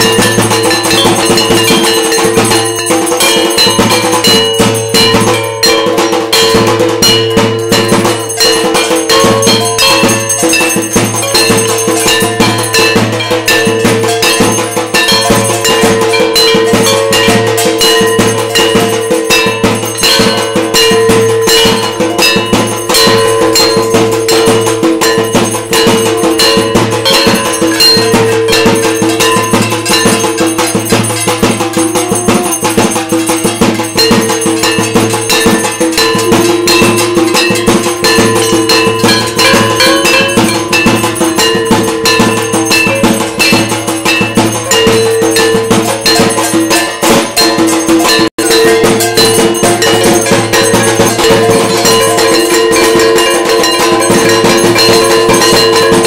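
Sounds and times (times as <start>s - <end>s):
bells and gongs clanging: 0.0s - 56.0s.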